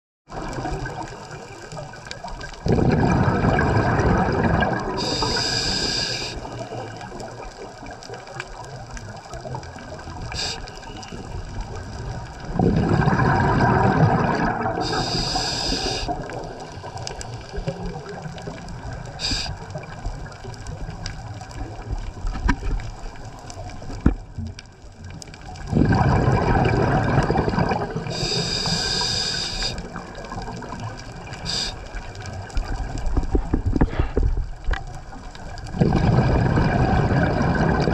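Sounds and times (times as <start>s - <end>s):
exhaled bubbles underwater: 0.3s - 37.9s
steady underwater hiss: 0.4s - 24.1s, 25.1s - 37.9s.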